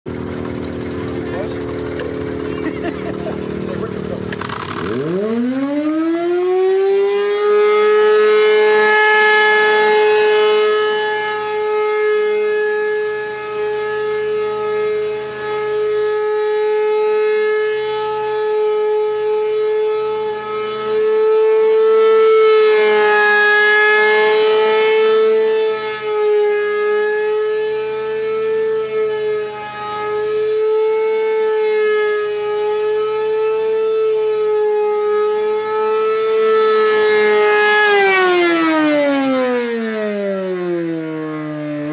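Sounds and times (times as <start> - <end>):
rotating siren wailing: 0.1 - 41.9.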